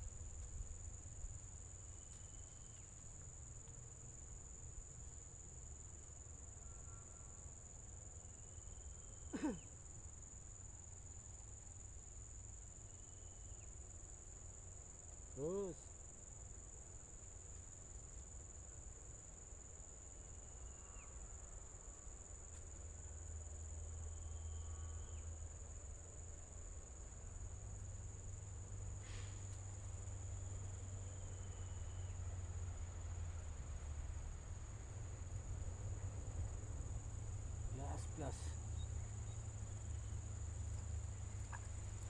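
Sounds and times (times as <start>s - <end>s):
insect trill: 0.0s - 42.0s.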